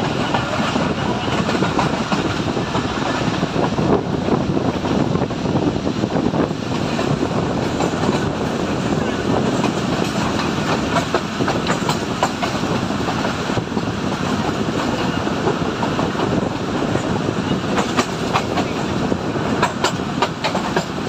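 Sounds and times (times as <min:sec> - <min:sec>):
rail joint clicks: 0:00.0 - 0:21.0
train wheels rumbling: 0:00.0 - 0:21.0.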